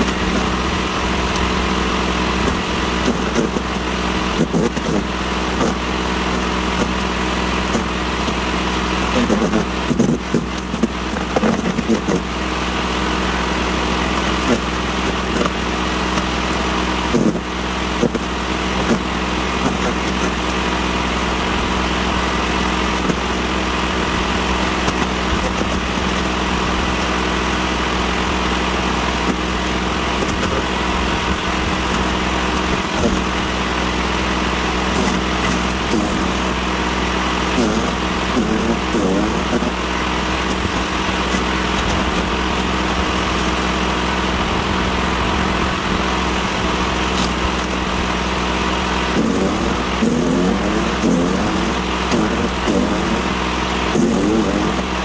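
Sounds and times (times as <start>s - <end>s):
electric wood chipper running: 0.0s - 55.0s.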